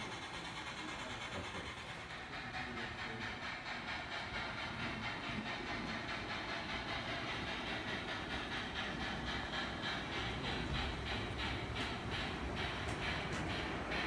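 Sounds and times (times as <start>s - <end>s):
model train rolling on track: 0.0s - 14.0s.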